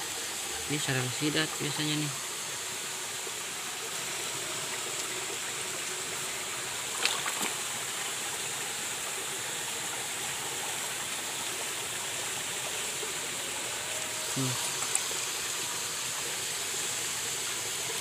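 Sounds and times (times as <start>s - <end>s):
stream water running over rocks: 0.0s - 18.0s.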